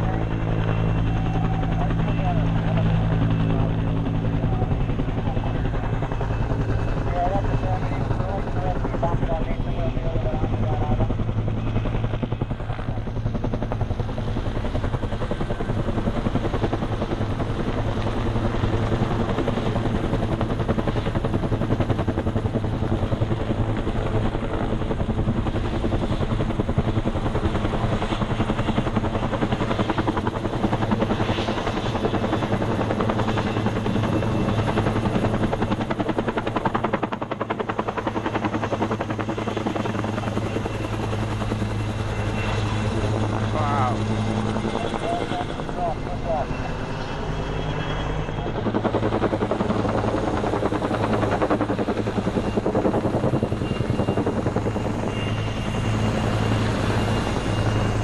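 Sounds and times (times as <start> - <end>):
helicopter rotor chop and drone: 0.0 - 58.0.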